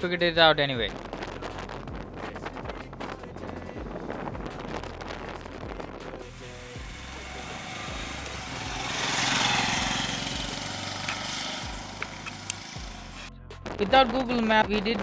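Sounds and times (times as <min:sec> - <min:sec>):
rushing noise: 0:00.0 - 0:13.9
motorcycle engine running: 0:00.8 - 0:14.9.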